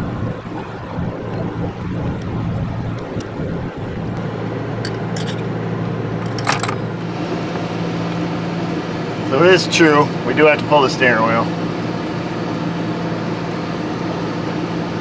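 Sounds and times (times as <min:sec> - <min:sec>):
milling machine diesel drone: 0:00.0 - 0:15.0.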